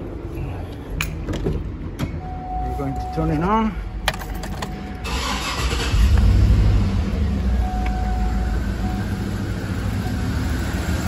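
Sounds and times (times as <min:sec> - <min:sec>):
car engine starting and idling: 0:01.8 - 0:11.0.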